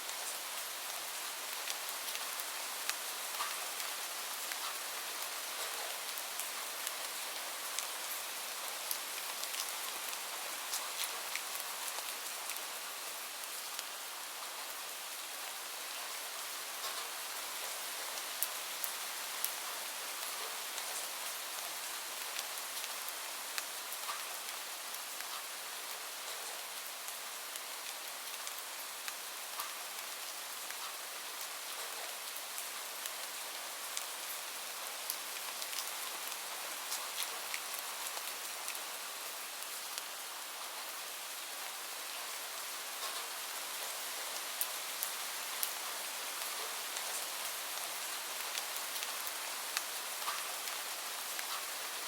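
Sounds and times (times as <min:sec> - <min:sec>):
rain drops ticking: 0:00.1 - 0:14.0, 0:16.7 - 0:40.6, 0:42.1 - 0:52.0.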